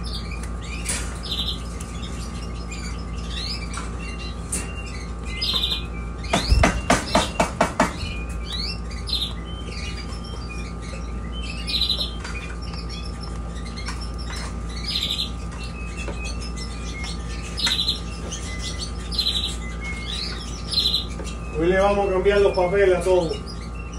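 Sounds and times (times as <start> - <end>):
canaries chirping: 0.0 - 23.9.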